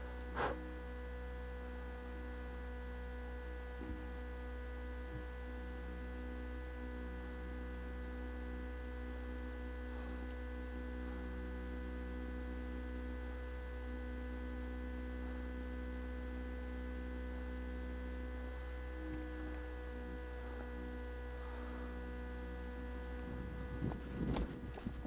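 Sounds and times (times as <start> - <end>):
faint steady tones: 0.0 - 25.0
low electrical hum: 0.0 - 25.0.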